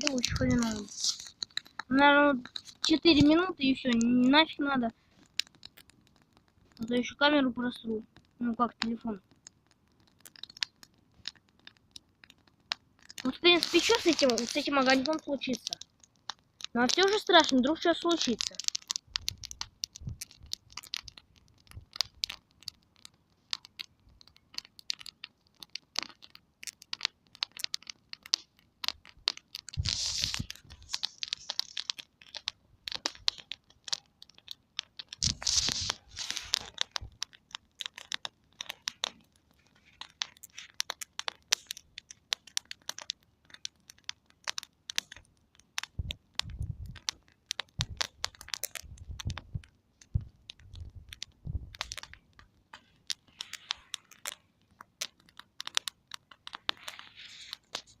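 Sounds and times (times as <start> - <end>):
rustling: 0.0 - 7.1, 9.2 - 58.0
campfire crackling and popping: 0.0 - 58.0.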